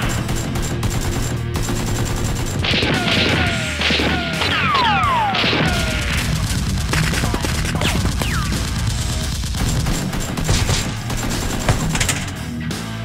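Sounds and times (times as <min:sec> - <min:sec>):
gunshots: 0:00.0 - 0:12.6
action background music: 0:00.0 - 0:13.0.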